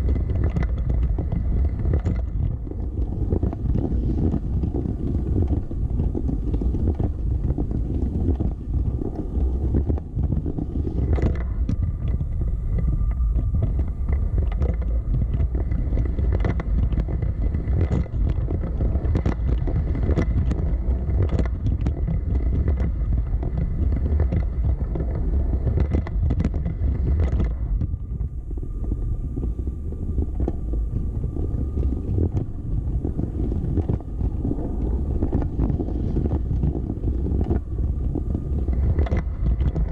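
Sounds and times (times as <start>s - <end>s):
faint steady whine: 0.0s - 39.9s.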